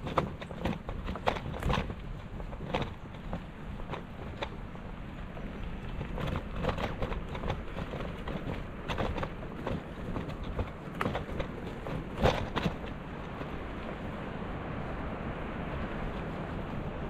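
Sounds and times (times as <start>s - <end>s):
bike clicks and rattles: 0.0s - 17.0s
wind and road rumble: 0.0s - 17.0s.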